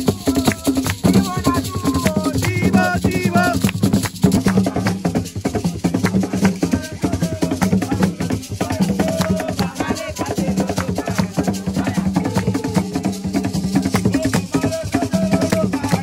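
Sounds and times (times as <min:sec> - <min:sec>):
hand drumming: 0:00.0 - 0:16.0.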